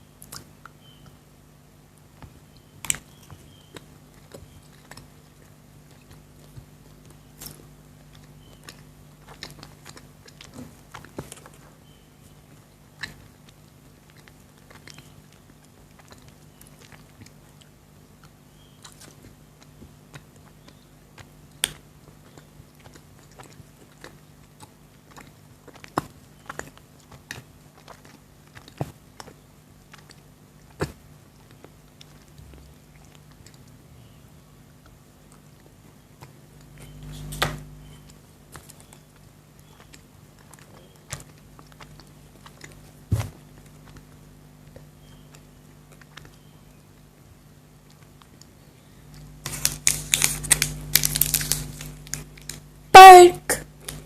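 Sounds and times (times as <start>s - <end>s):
chewing chocolates crunching: 0.0s - 1.2s, 1.8s - 52.9s, 53.6s - 54.0s
faint low hum: 0.0s - 54.0s.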